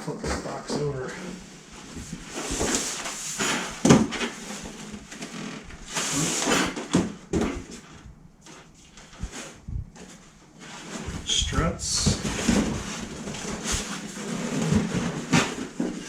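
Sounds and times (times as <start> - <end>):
cardboard box rustling and scraping: 0.4 - 16.0.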